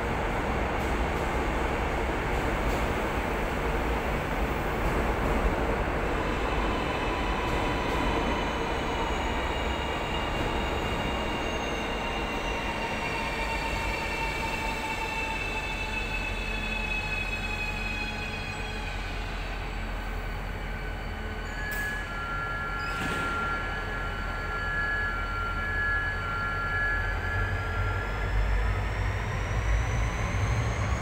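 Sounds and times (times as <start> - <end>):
diesel train rumbling: 0.0 - 31.0.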